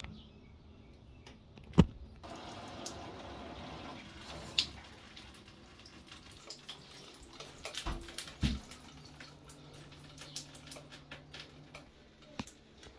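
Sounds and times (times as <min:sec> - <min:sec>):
water dripping and trickling: 0:02.2 - 0:12.9.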